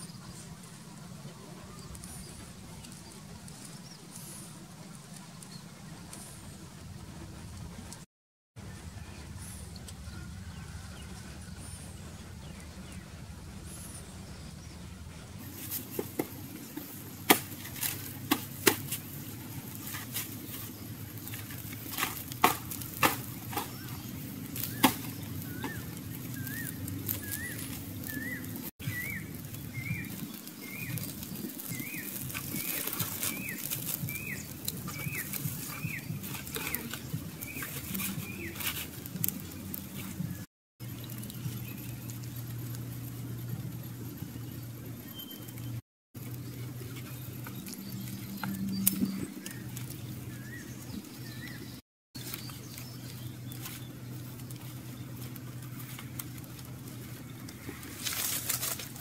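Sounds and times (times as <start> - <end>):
fire crackling and snapping: 0.2 - 8.1, 15.4 - 59.0
bird chirping: 8.6 - 56.0.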